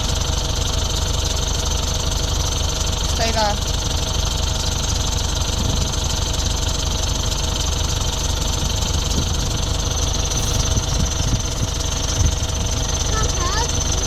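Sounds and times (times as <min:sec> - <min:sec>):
speed boat engine running: 0:00.0 - 0:14.0.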